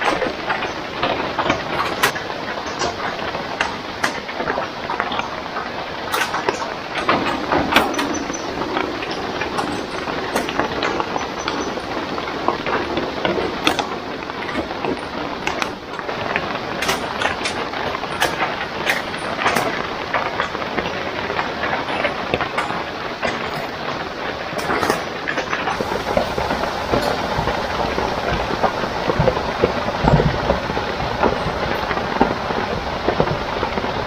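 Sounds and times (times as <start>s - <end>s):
light rain with dripping: 0.0s - 34.0s.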